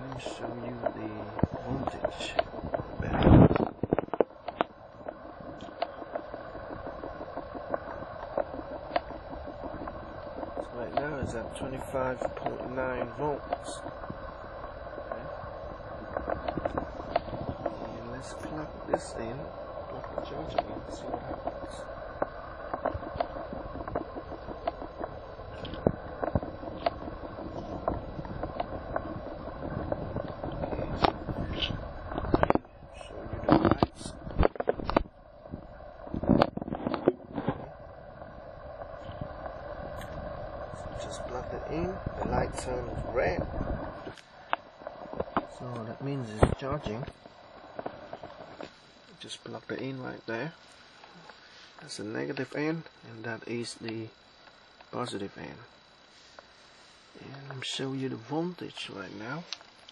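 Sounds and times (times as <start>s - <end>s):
cables rustling: 0.0s - 53.0s
faint ticks: 0.0s - 59.9s
steady background hiss: 0.0s - 59.9s.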